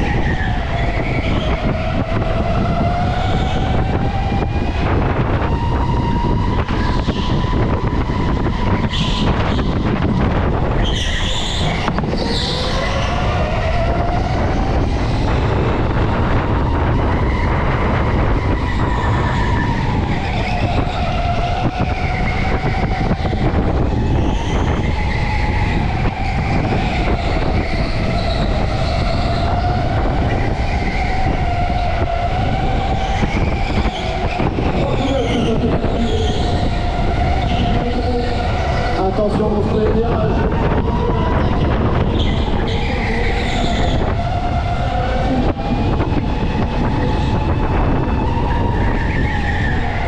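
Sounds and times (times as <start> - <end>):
go-kart motor whining: 0.0 - 50.0.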